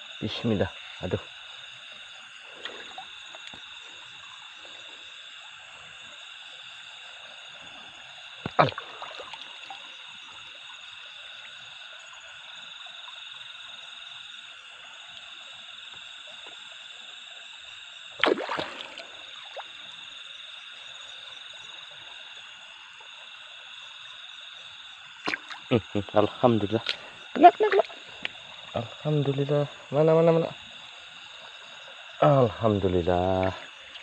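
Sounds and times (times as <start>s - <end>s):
frogs calling: 0.0s - 34.0s.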